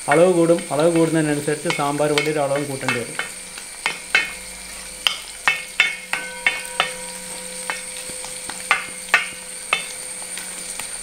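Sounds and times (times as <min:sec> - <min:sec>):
ladle knocking metal pot: 0:00.0 - 0:10.4
vegetables sizzling: 0:00.0 - 0:11.0.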